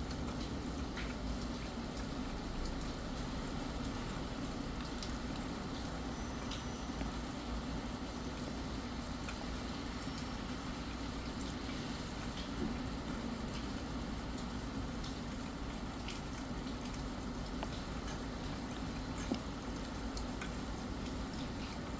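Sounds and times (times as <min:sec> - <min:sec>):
faint drip ticks: 0:00.0 - 0:21.9
steady rain hiss: 0:00.0 - 0:21.9.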